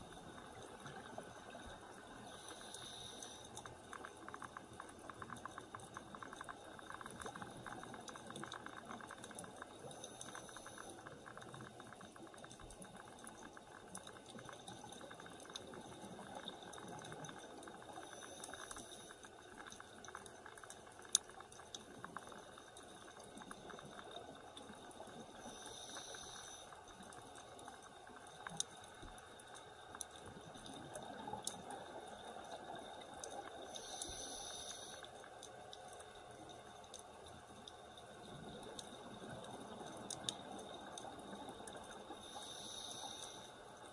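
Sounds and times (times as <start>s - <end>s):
fine underwater crackle: 0.0s - 43.9s.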